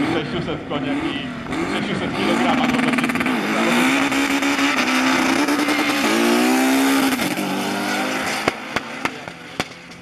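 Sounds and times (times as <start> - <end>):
race car engines accelerating: 0.0 - 10.0.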